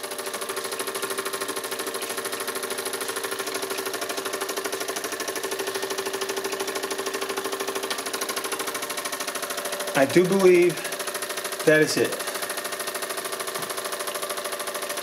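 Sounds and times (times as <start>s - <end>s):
toy steam engine exhaust beat: 0.0s - 15.0s.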